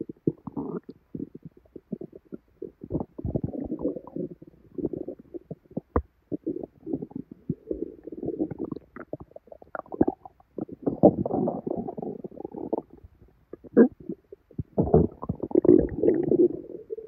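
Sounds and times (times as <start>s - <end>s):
stomach gurgling: 0.0s - 17.0s.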